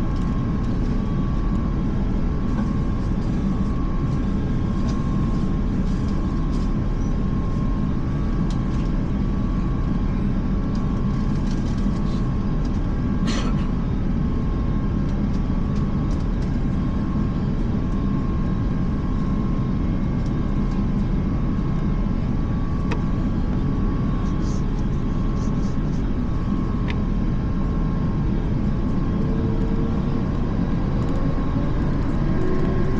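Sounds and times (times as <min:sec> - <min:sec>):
airliner cabin rumble: 0:00.0 - 0:32.9
thin steady whine: 0:00.0 - 0:32.9.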